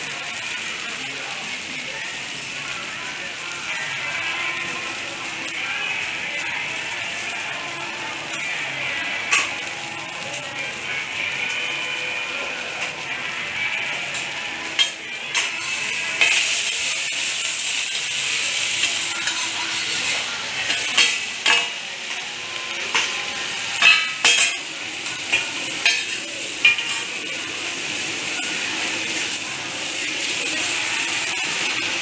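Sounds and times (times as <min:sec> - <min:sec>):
omelette sizzling in oil: 0:00.0 - 0:32.0.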